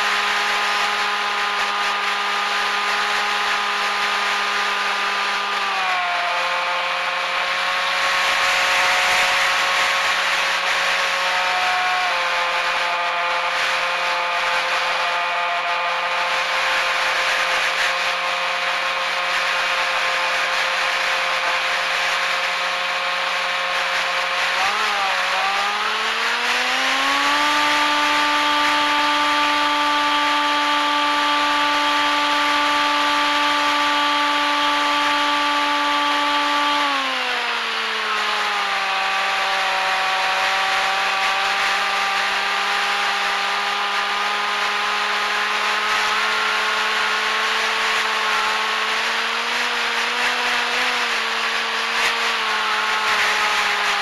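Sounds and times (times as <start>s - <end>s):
model aircraft motor whining: 0.0s - 54.0s.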